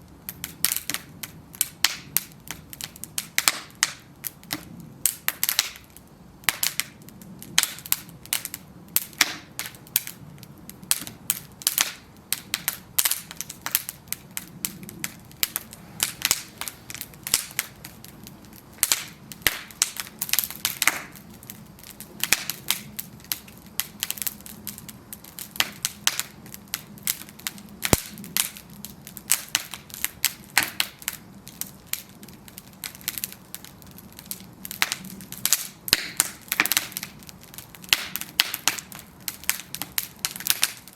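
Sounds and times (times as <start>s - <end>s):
bonfire crackling and popping: 0.0s - 40.9s.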